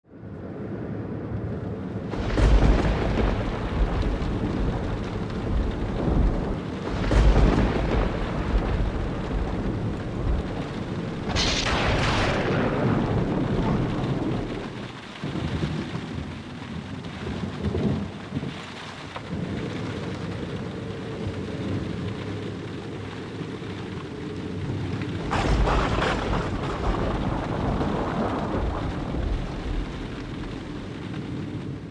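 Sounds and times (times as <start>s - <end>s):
steady rain: 0.1s - 31.9s
thunder cracking and rumbling: 0.1s - 31.9s.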